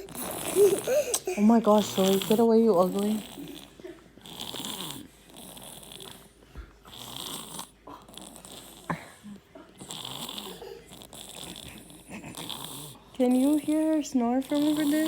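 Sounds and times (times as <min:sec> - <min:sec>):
snoring: 0:01.7 - 0:15.0.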